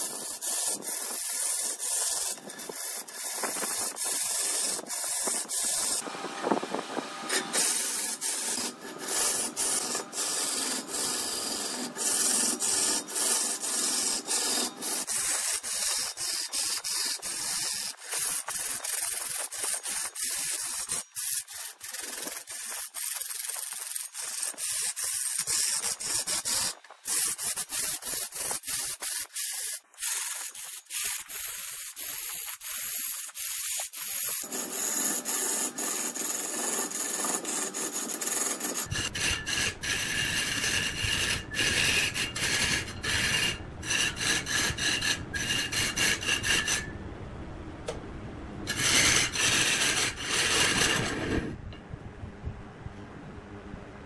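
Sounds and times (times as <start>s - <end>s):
lathe tool scraping spinning wood: 0.0s - 46.9s, 48.7s - 51.6s.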